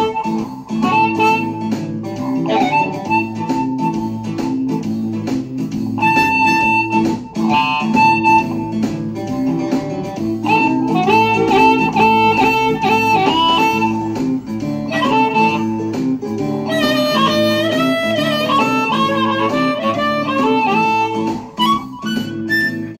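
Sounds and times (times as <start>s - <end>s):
blues guitar accompaniment: 0.0s - 23.0s
blues harmonica: 0.0s - 23.0s.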